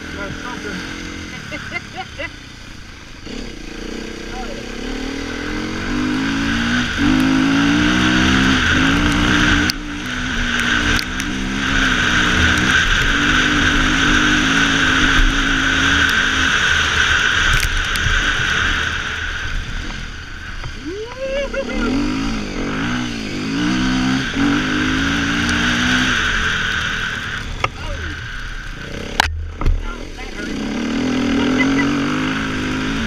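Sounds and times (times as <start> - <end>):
dirt bike engine revving: 0.0 - 33.0
steady rushing noise: 0.0 - 33.0.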